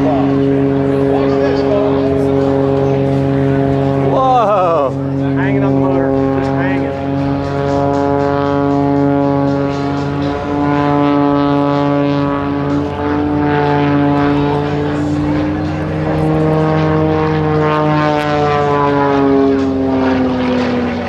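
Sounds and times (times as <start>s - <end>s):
propeller plane engine: 0.0s - 21.0s.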